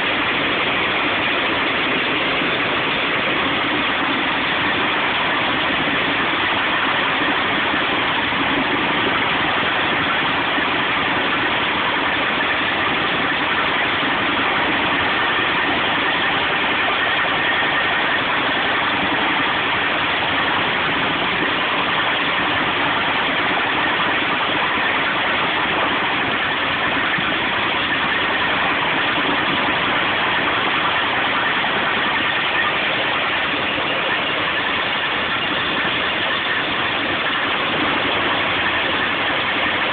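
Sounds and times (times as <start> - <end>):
branch chipper running: 0.0 - 39.9.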